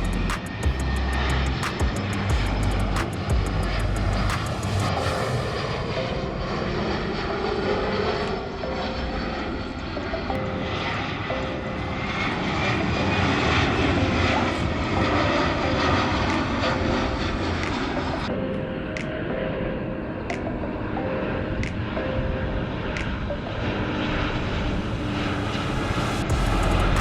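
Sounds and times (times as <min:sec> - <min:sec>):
faint rising whine: 0:00.0 - 0:18.5, 0:23.8 - 0:27.0
airliner engines running: 0:00.0 - 0:27.0.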